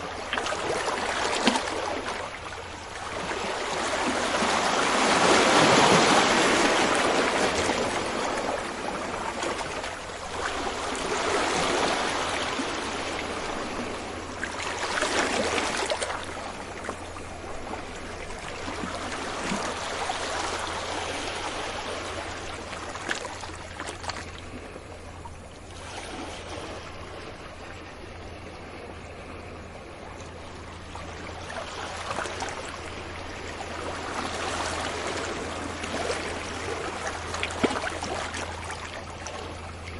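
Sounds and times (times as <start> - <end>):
ocean waves washing on beach: 0.0 - 39.9.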